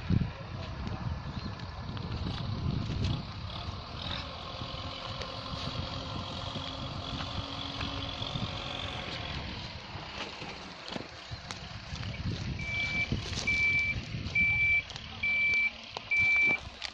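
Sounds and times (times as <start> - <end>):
wind on microphone: 0.0 - 10.2, 11.2 - 14.8
diesel engine running: 0.0 - 16.9.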